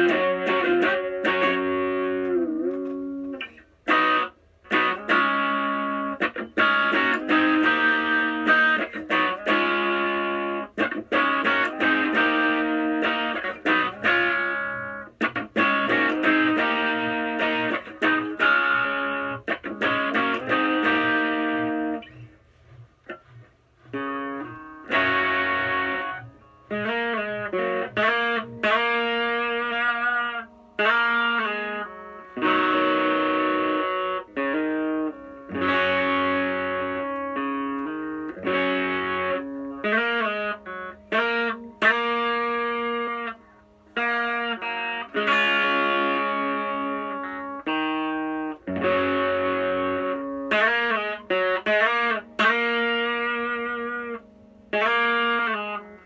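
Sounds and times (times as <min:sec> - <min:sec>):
overdriven electric guitar: 0:00.0 - 0:56.0.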